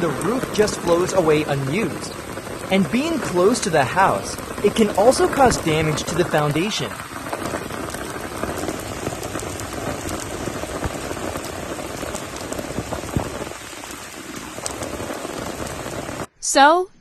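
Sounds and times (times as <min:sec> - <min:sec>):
steady rain falling: 0:00.0 - 0:16.3.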